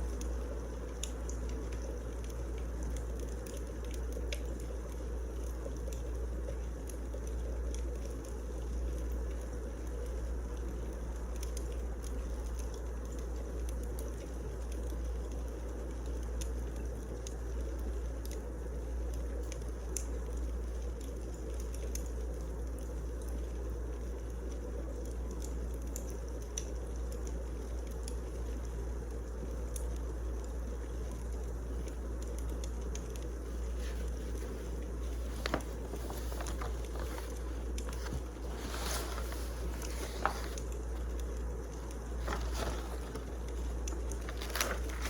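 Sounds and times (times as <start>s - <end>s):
fire rumbling and crackling: 0.0s - 45.0s.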